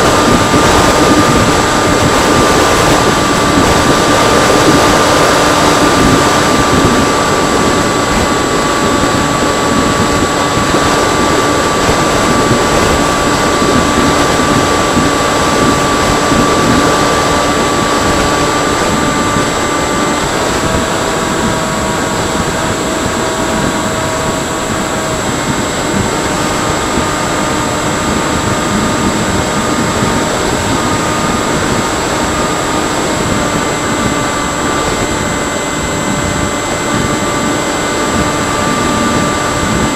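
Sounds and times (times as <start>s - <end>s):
electric motor whining: 0.0s - 39.9s
rush of air: 0.0s - 39.9s.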